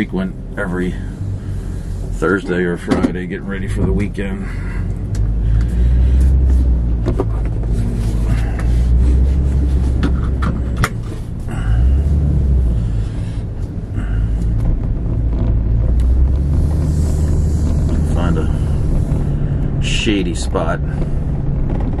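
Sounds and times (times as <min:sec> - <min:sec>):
truck engine and tyres rumbling: 0:00.0 - 0:22.0.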